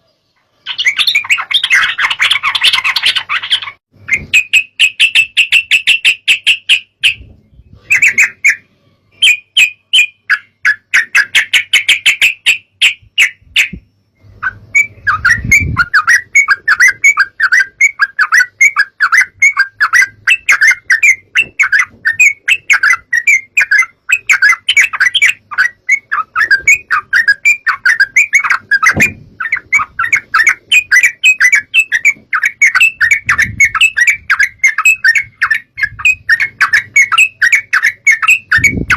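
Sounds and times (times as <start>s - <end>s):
bird chirping chatter: 0.0s - 38.9s.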